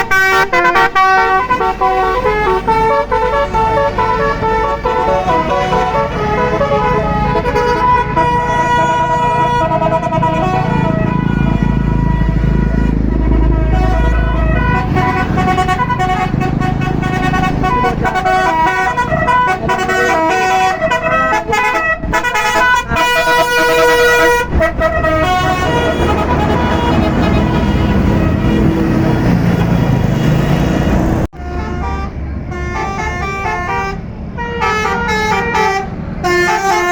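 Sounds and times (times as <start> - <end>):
bus engine rumbling: 0.0 - 36.9
musical air horn tune: 0.0 - 36.9.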